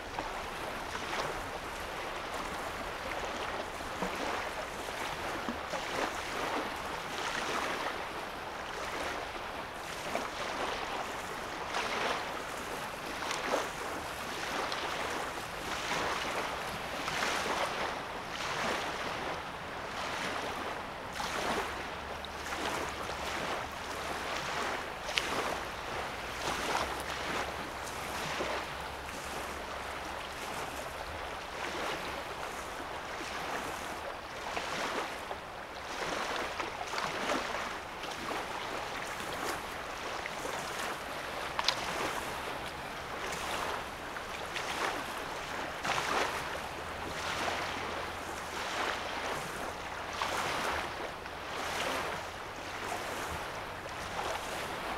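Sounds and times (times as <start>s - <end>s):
small waves lapping shore: 0.0s - 54.9s.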